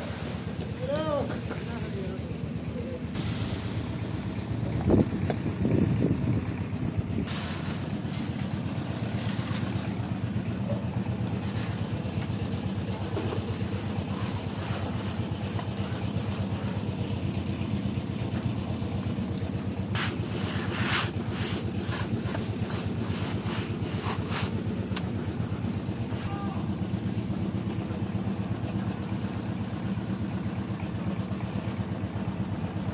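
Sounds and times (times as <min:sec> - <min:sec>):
construction equipment engine running: 0:00.0 - 0:32.9.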